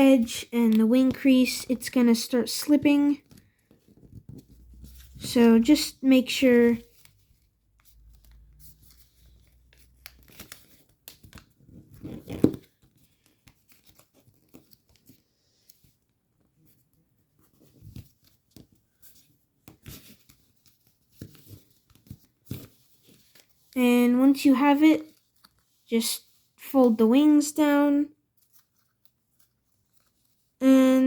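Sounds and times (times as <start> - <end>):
paper rustling and crinkling: 0.2 - 23.8, 24.4 - 26.9, 28.2 - 30.6.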